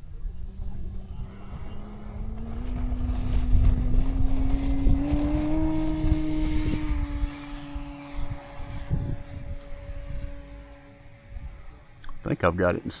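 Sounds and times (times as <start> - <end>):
wind rumbling on microphone: 0.0 - 12.4
model plane motor humming: 0.0 - 13.0.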